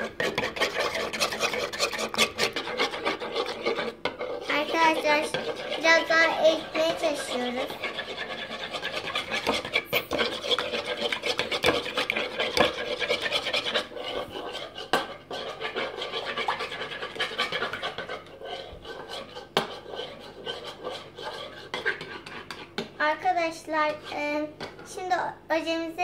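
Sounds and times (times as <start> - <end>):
utensil scraping slime in bowl: 0.0 - 25.1.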